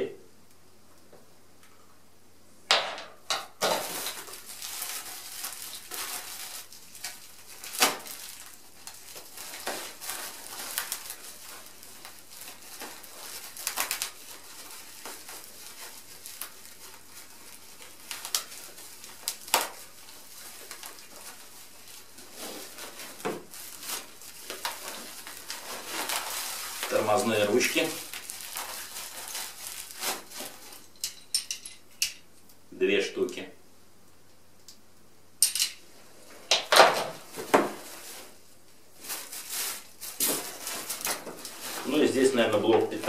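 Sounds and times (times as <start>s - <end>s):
plastic packaging crinkling: 3.4s - 32.3s, 36.6s - 43.0s.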